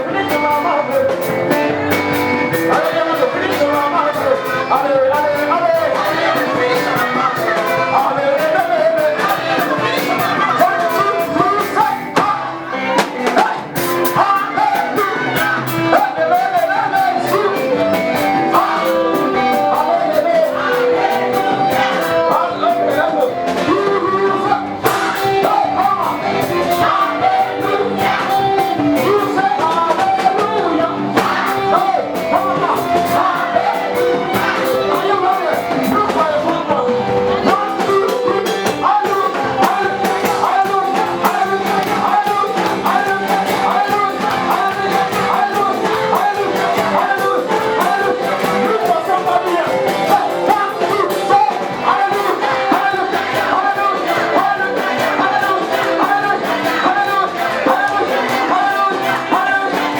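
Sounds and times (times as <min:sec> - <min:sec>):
band playing a steady beat: 0:00.0 - 0:59.9
person singing: 0:00.0 - 0:59.9.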